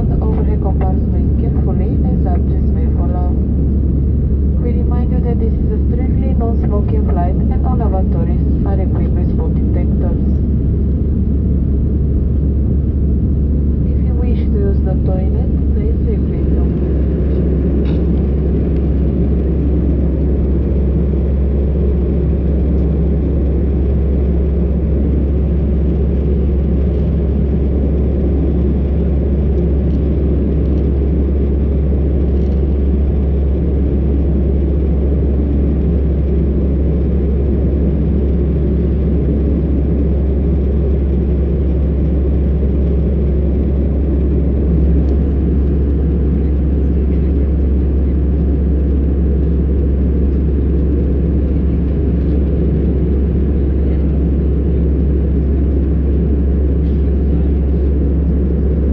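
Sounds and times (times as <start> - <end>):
airplane cabin rumble: 0.0 - 58.9.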